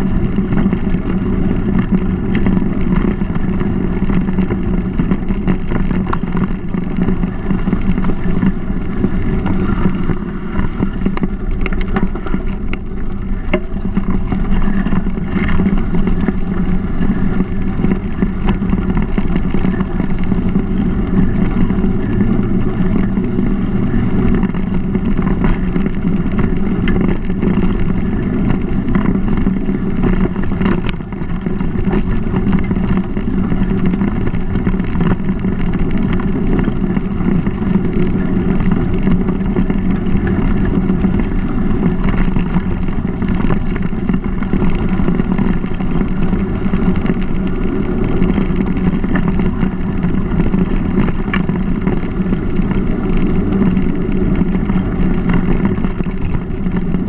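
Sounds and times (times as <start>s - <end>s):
bike tyres on dirt trail: 0.0s - 57.0s
small knocks and rattles: 0.0s - 57.0s
wind on microphone: 0.0s - 57.0s.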